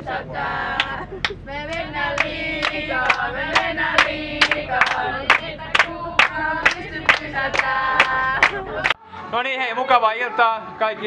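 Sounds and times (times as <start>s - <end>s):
women singing a chant: 0.0s - 9.3s.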